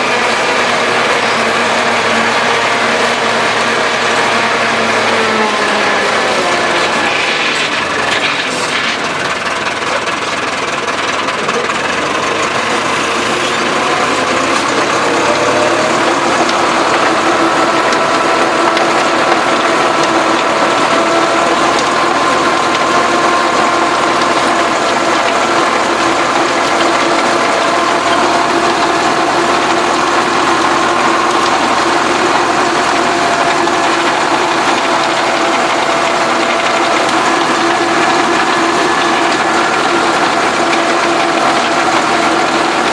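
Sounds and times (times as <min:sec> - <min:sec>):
tractor diesel engine under load: 0:00.0 - 0:42.9
mechanical rattling: 0:06.6 - 0:42.9.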